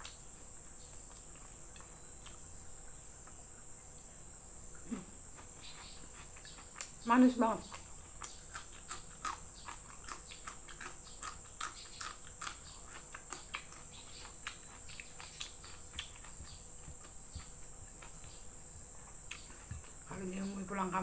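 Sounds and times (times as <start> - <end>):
high-pitched background hum: 0.0 - 21.0
crisp chewing crunches: 0.8 - 2.6, 4.9 - 20.1.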